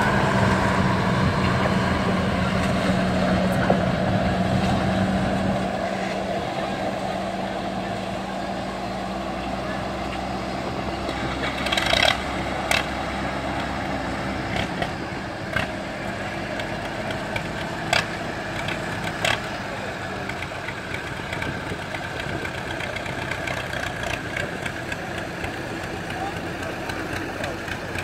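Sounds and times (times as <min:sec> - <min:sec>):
tractor diesel engines running: 0:00.0 - 0:28.0.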